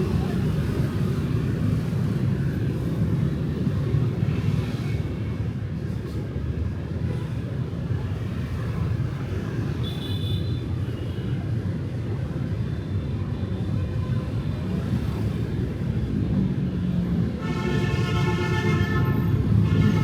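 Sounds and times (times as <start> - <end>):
motorbikes and cars passing: 0.0 - 9.9, 11.6 - 20.0.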